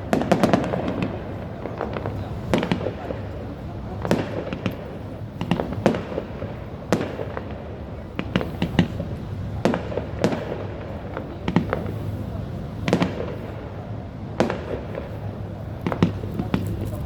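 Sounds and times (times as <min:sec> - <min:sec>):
distant fireworks rumble and crackle: 0:00.0 - 0:17.0
fireworks bangs: 0:00.0 - 0:17.0.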